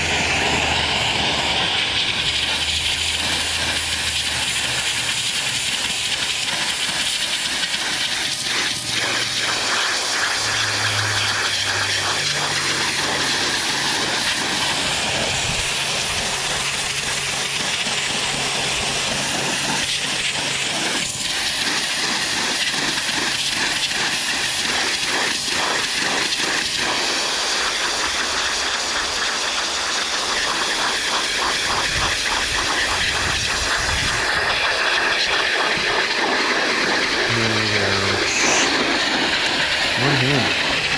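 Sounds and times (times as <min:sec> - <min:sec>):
motor and pump humming: 0:00.0 - 0:40.9
pressure washer water jet hissing: 0:00.0 - 0:40.9.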